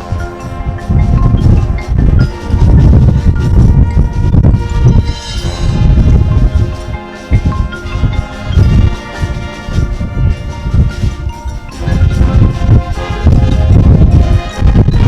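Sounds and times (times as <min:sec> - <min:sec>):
marching band wind chords: 0:00.0 - 0:15.0.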